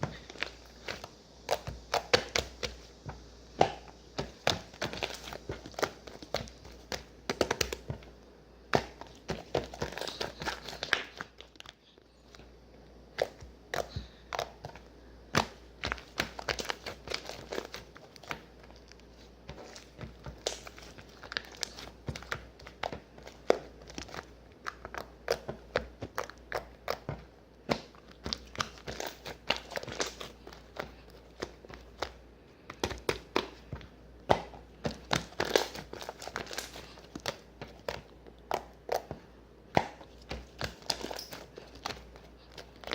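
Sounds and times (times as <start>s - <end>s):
crinkling and crackling: 0.0s - 42.9s.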